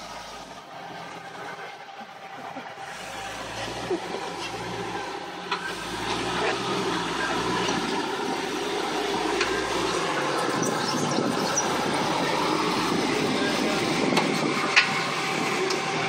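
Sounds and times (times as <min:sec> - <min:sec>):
engine running under load: 0:00.0 - 0:16.0.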